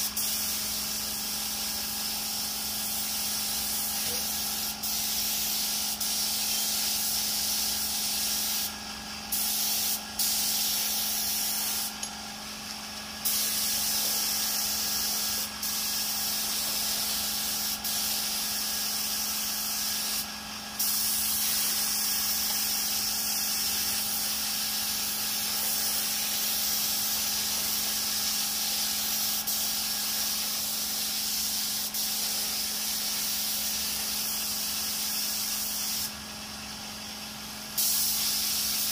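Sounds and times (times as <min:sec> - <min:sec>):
spray gun hissing: 0:00.0 - 0:38.9.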